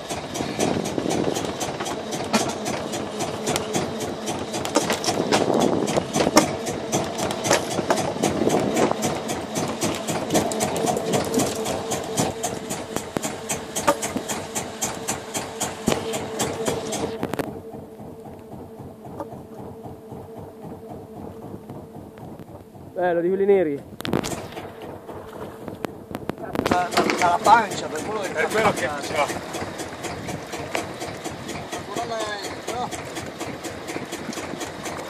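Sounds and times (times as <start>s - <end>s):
boat engine running: 0.0s - 35.0s
fast regular clicking: 0.0s - 35.0s.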